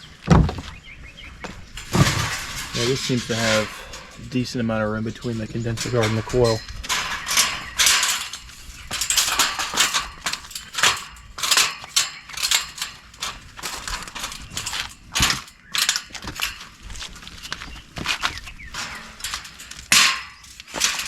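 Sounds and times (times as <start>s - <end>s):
sheet metal clanking and scraping: 1.4s - 21.0s.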